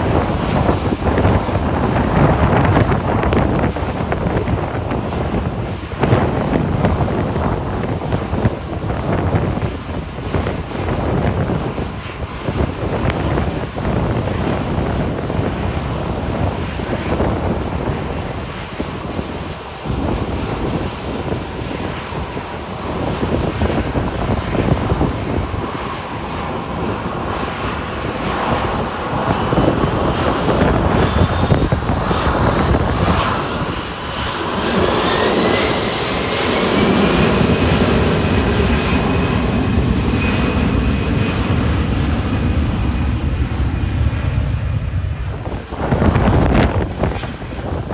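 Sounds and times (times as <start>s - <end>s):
rising jet engine whine: 0.0s - 47.9s
wind gusting on microphone: 0.0s - 47.9s.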